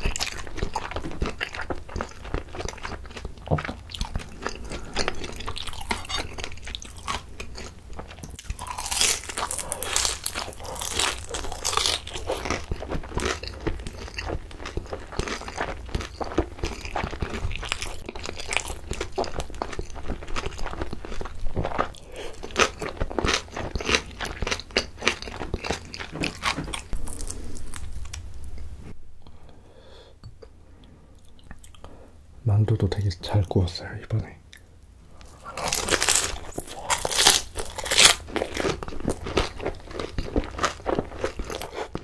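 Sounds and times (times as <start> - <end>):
crunchy biting and wet chewing: 0.0 - 28.2, 35.2 - 42.0.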